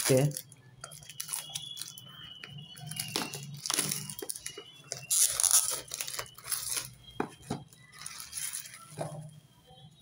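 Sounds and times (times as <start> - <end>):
plastic shrink-wrap crinkling: 0.0 - 9.2.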